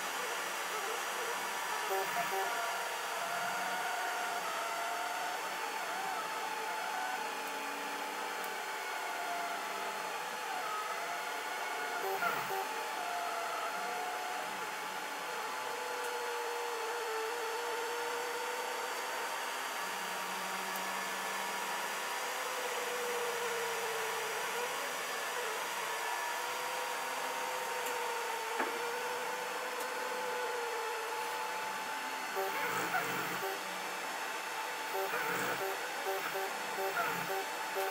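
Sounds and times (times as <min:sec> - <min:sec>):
cooling fans whirring: 0:00.0 - 0:37.9
stepper motors whining: 0:00.2 - 0:19.0, 0:22.4 - 0:37.9.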